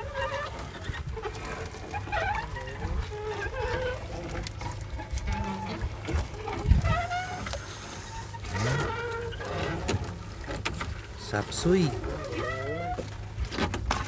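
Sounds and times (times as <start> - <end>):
wet net hauled over boat side: 0.0 - 14.0.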